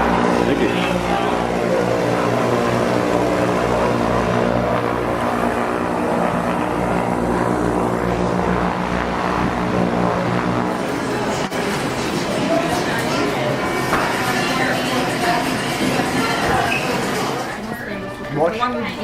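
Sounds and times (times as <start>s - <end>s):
propeller plane engine running: 0.0s - 17.6s.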